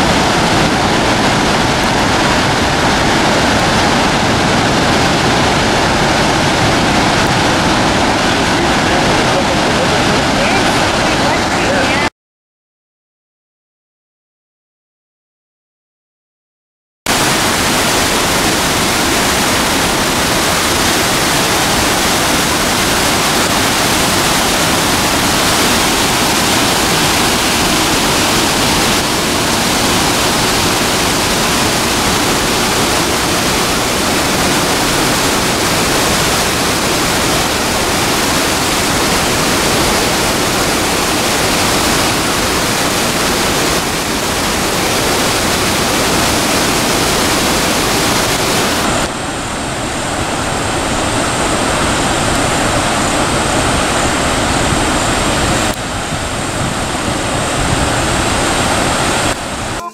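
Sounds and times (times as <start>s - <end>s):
waterfall roaring: 0.0s - 12.1s, 17.1s - 59.9s.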